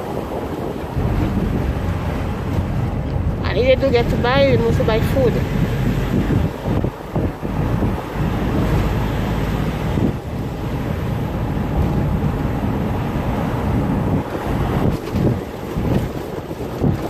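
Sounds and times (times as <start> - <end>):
road and engine noise in car: 0.0 - 17.0
wind buffeting microphone: 0.0 - 17.0.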